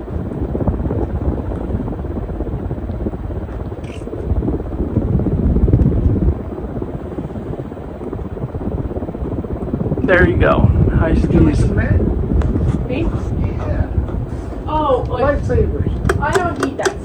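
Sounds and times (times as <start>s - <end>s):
ceiling fan air rushing: 0.0s - 17.0s
downdraft buffeting microphone: 0.0s - 17.0s.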